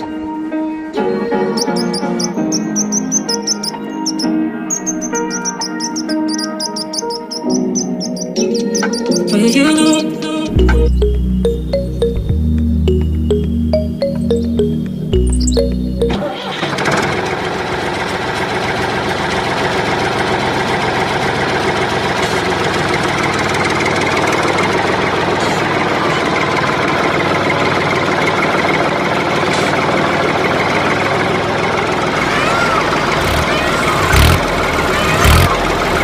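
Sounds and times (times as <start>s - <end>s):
tractor engine running: 1.2s - 36.0s.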